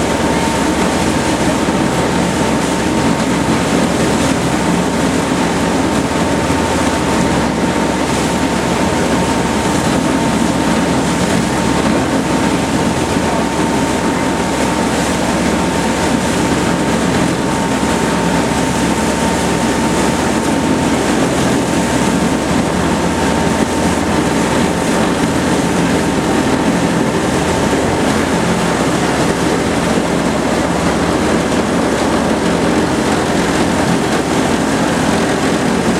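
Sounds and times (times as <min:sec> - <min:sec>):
engine drone: 0:00.0 - 0:35.9
thin steady whine: 0:00.0 - 0:35.9.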